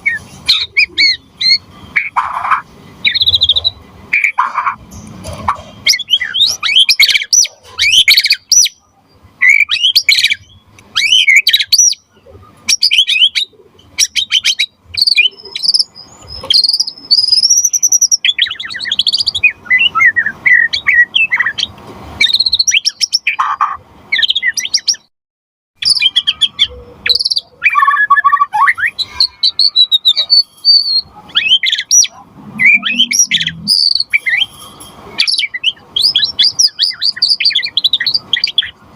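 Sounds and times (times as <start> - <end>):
bird singing trills and whistles: 0.0 - 25.1, 25.8 - 38.8.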